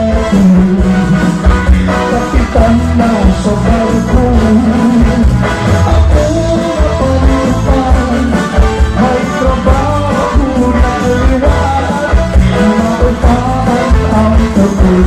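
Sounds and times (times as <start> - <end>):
live band playing cha-cha: 0.0 - 15.0.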